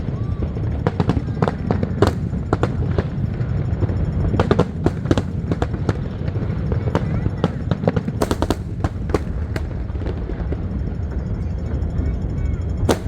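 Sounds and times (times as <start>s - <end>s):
fireworks bangs and cracks: 0.0s - 11.0s, 12.8s - 13.0s.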